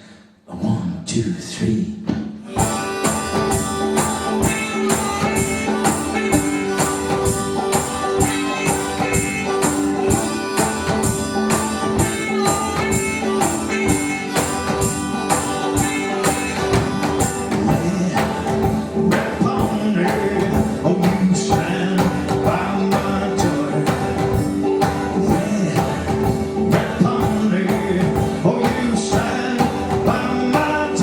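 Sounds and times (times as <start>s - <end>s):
steady percussion beat: 2.2s - 31.0s
harmonica tune: 2.5s - 31.0s.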